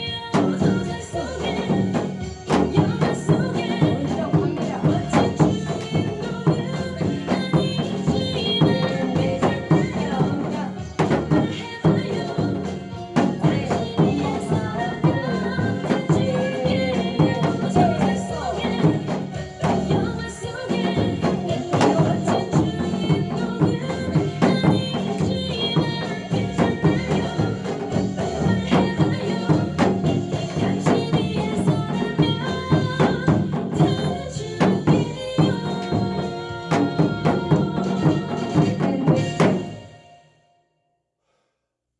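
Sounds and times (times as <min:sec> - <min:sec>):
hourglass drum strokes: 0:00.0 - 0:40.0
recorded backing track song: 0:00.0 - 0:40.7.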